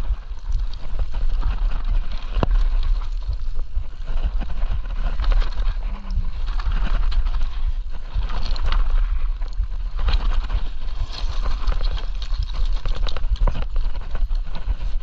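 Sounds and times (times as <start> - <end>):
tyres crunching over stones: 0.0 - 15.0
wind rumble on microphone: 0.0 - 15.0.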